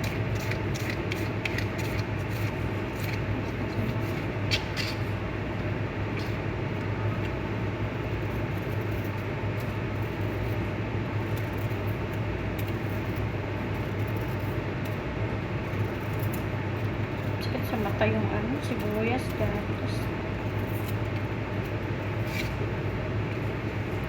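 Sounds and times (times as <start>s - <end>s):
fan or motor humming: 0.0s - 24.0s.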